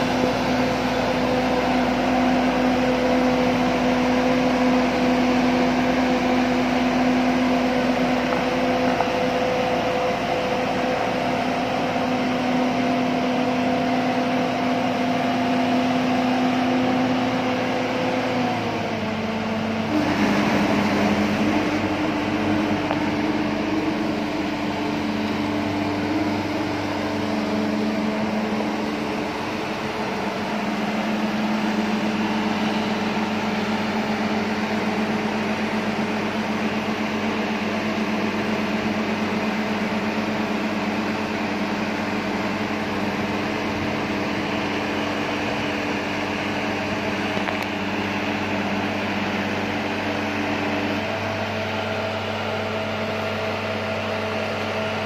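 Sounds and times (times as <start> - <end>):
boat hoist mechanical drone: 0.0 - 55.0.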